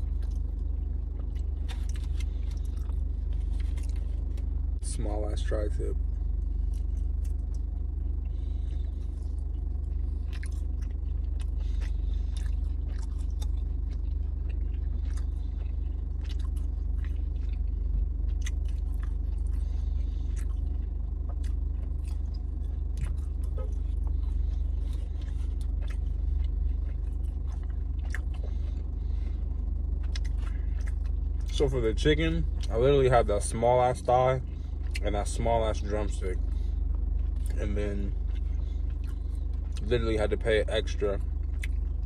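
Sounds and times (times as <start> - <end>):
person chewing meat: 0.0 - 4.8, 5.8 - 42.0
car interior rumble: 0.0 - 42.0.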